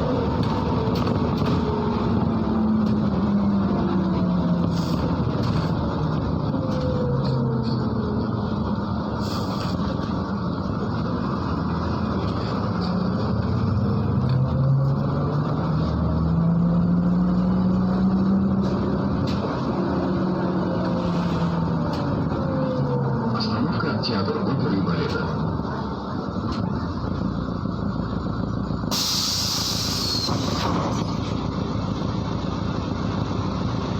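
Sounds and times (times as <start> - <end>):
bus engine heard from inside: 0.0 - 33.9.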